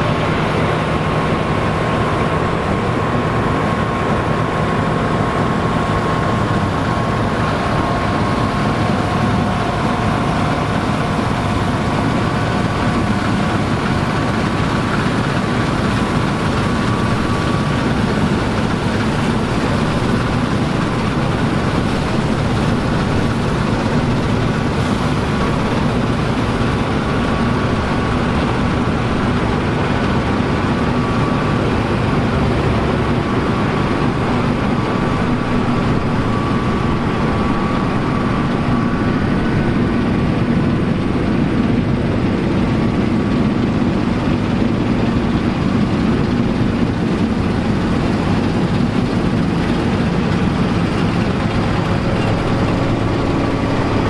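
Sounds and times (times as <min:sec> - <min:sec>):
heavy engine running under load: 0:00.0 - 0:54.0.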